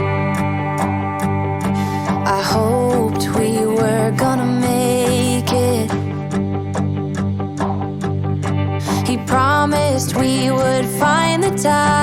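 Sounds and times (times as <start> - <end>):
soft song with guitar: 0.0 - 12.0.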